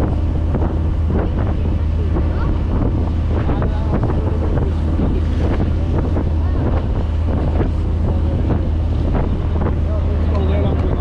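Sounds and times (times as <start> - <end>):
boat engine droning: 0.0 - 11.0
wake water splashing: 0.0 - 11.0
wind buffeting microphone: 0.0 - 11.0.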